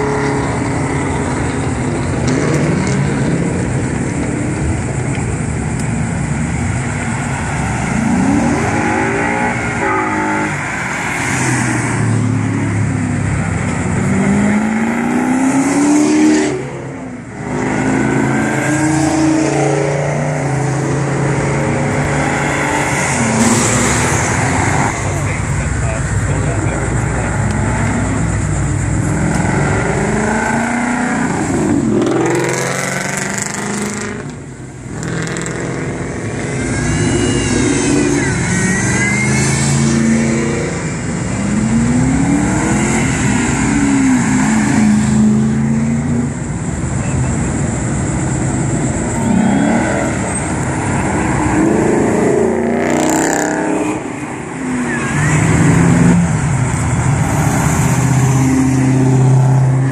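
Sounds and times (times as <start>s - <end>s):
car engines accelerating: 0.0s - 59.9s.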